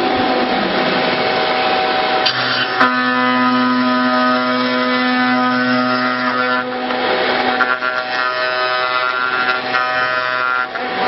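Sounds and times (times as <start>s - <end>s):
rough cutting noise: 0.0s - 11.0s
router spindle whining: 0.0s - 11.0s.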